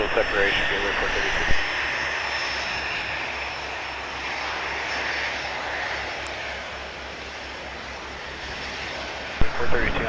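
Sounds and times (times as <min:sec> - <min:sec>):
turboprop engine running: 0:00.0 - 0:10.0.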